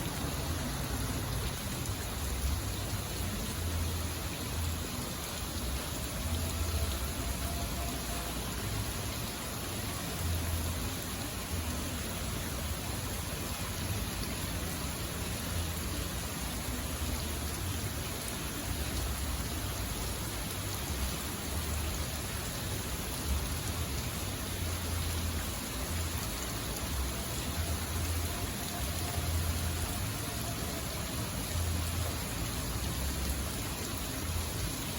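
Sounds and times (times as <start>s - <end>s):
rain hiss: 0.0s - 34.9s.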